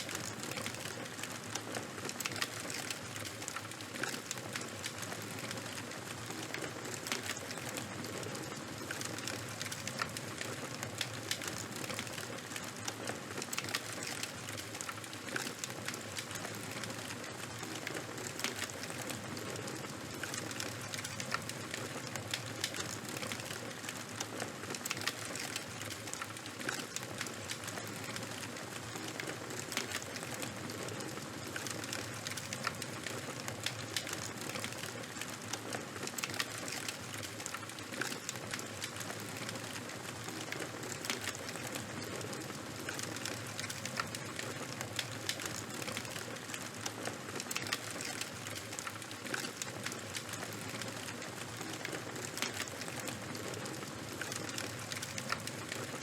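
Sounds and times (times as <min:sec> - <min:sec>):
burning charcoal popping and snapping: 0:00.0 - 0:56.0.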